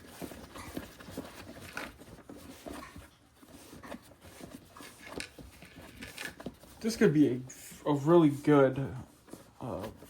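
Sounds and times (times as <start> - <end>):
playmat rustling and tapping: 0.0 - 10.0.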